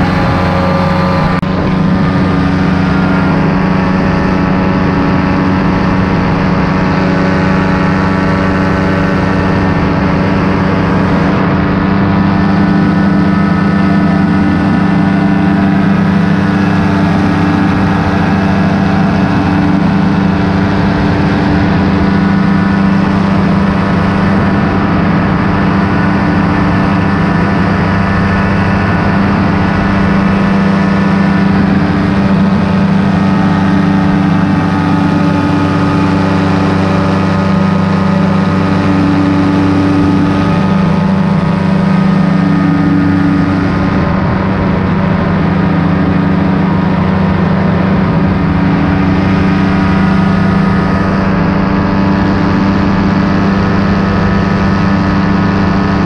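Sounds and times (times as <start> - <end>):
paramotor engine and propeller: 0.0 - 56.0.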